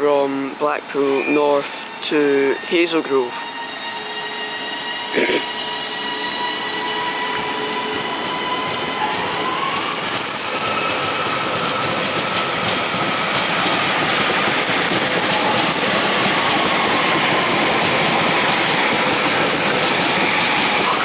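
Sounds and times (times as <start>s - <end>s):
electric train whine: 0.0s - 21.0s.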